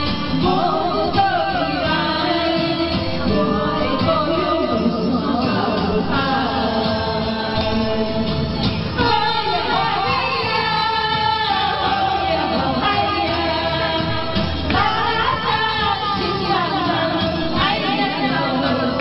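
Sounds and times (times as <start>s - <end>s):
person singing with accompaniment: 0.0s - 19.0s.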